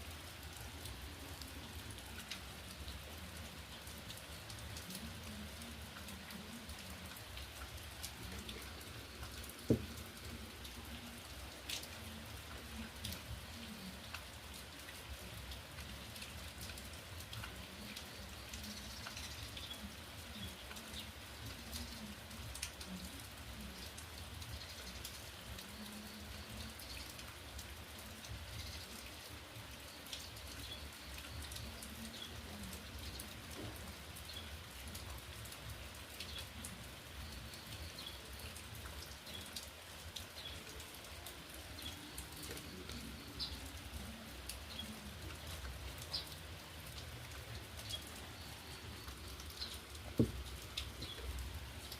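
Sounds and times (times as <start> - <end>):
raindrops tapping on a surface: 0.0 - 51.9
steady rain falling: 0.0 - 51.9.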